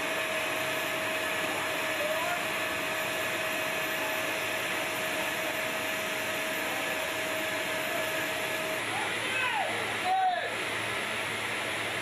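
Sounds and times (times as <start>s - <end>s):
blower machinery rushing: 0.0s - 12.0s
high steady whine: 0.0s - 12.0s.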